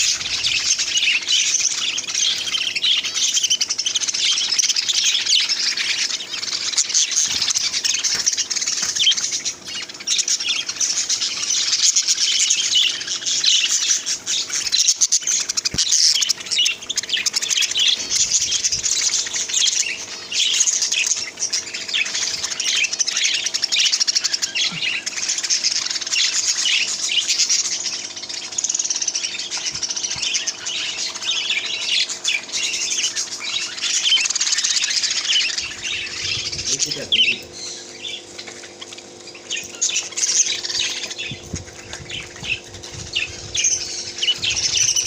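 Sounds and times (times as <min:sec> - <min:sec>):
caged birds chirping: 0:00.0 - 0:45.0.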